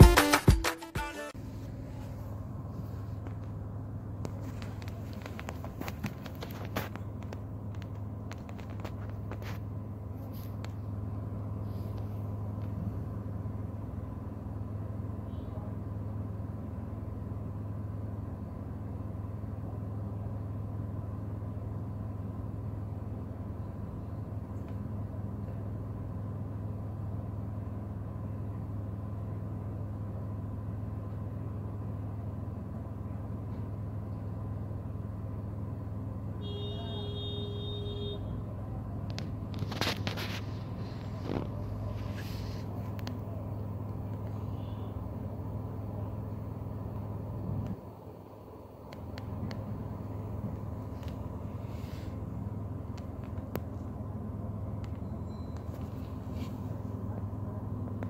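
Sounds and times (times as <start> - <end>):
car engine idling: 1.3 - 58.0.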